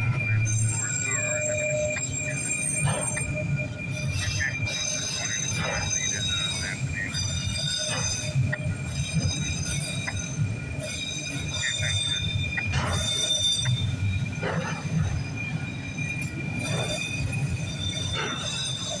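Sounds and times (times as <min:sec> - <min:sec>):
high-pitched wheel squeal: 0:00.0 - 0:19.0
wheels clicking over rail joints: 0:00.0 - 0:19.0
wheels rumbling on rail: 0:00.0 - 0:19.0.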